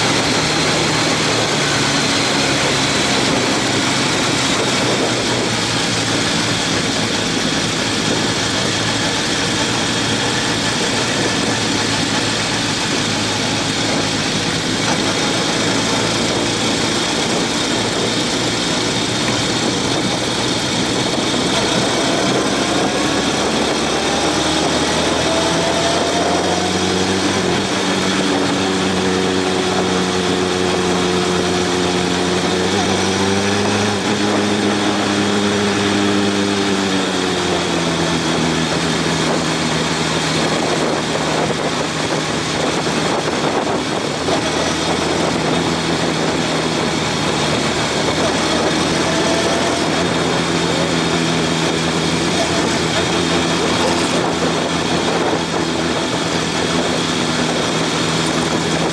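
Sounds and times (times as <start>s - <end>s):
motorcycle engine running: 0.0s - 58.9s
wind noise: 0.0s - 58.9s.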